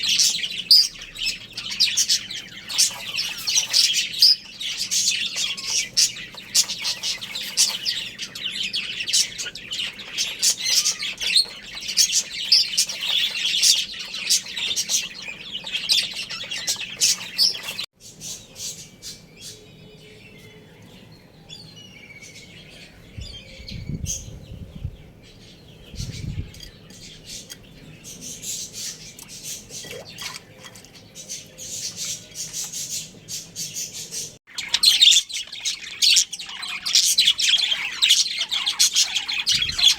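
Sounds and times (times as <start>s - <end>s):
small cage birds chirping: 0.0s - 39.9s.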